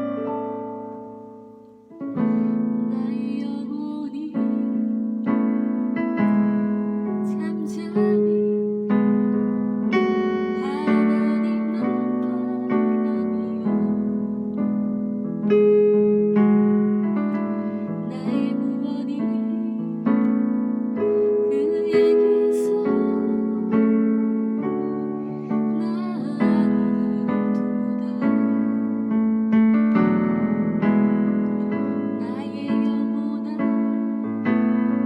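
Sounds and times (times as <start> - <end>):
piano playing slow chords: 0.0 - 35.0.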